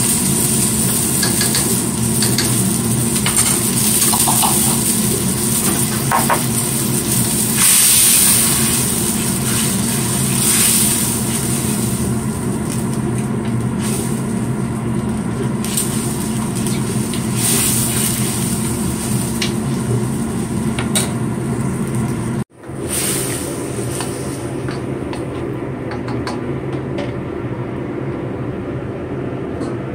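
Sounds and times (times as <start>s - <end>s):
gas burner hiss: 0.0s - 25.2s
broth bubbling in a wok: 0.0s - 25.3s.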